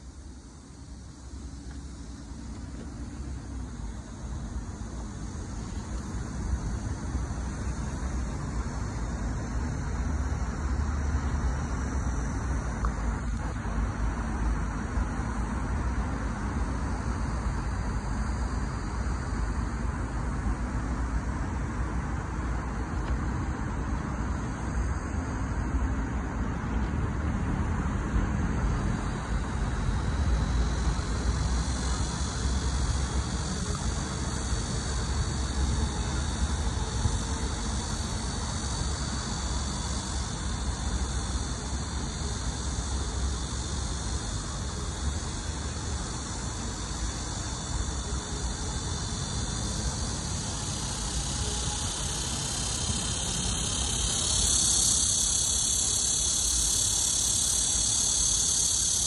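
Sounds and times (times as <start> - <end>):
cicada buzzing: 0.0 - 26.1, 27.8 - 59.0
road traffic rumble: 0.0 - 59.0.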